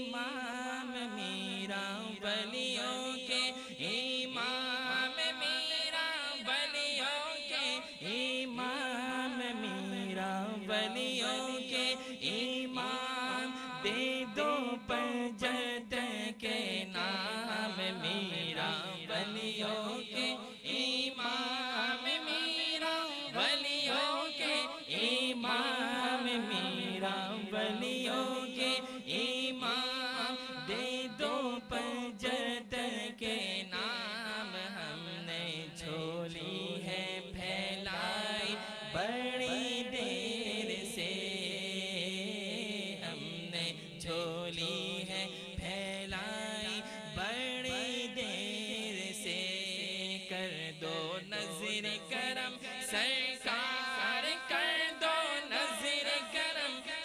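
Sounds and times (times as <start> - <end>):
man singing: 0.0 - 57.0.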